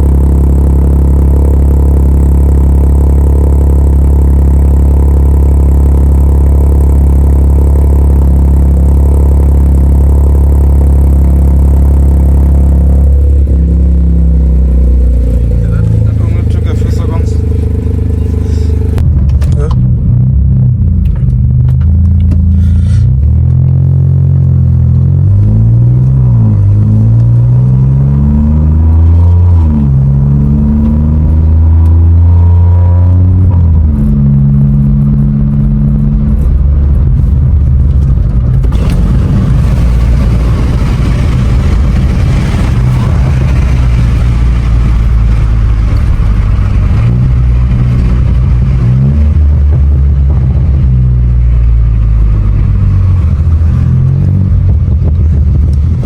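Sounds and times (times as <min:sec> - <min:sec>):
car engine changing gears: 0:00.0 - 0:56.0
road noise: 0:00.0 - 0:56.0.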